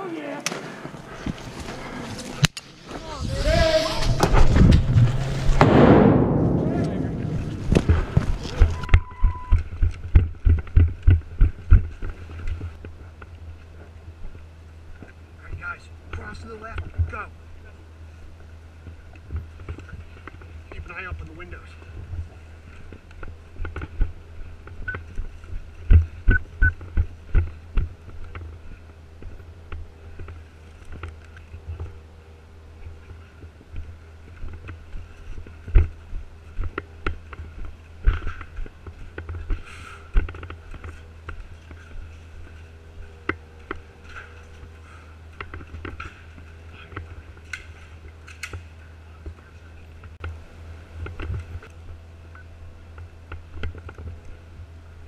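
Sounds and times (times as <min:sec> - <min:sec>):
footsteps: 0:00.3 - 0:50.2
steady low rumble: 0:00.6 - 0:55.0.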